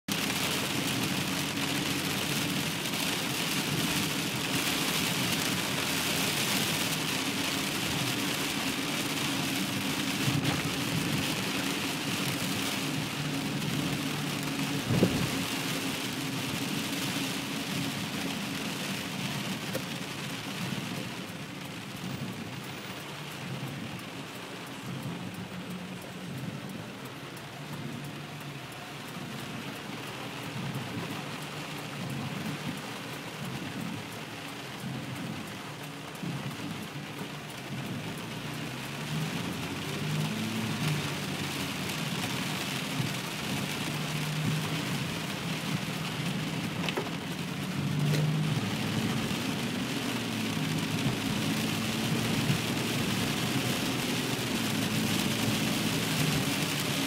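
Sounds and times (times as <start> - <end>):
heavy rain on car roof: 0.0 - 57.0.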